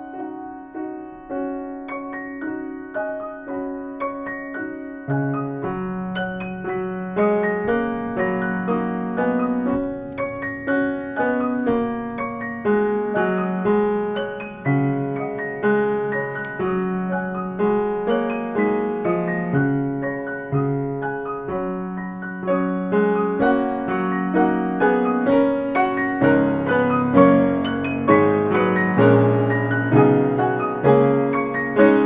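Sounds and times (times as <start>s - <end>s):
gentle piano piece: 0.0s - 32.0s.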